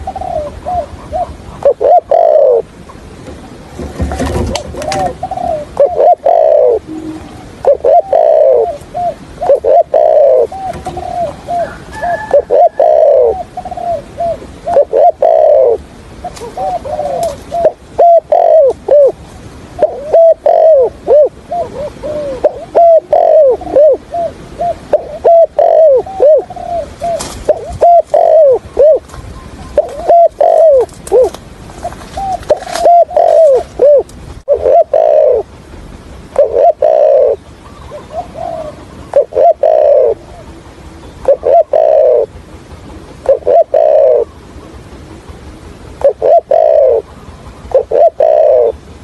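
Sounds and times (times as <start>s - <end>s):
dove cooing: 0.0s - 35.6s, 36.3s - 49.0s.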